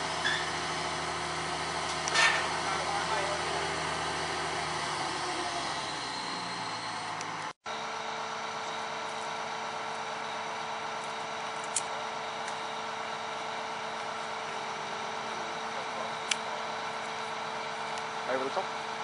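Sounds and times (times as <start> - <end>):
heavy machinery engine humming: 0.0 - 19.0.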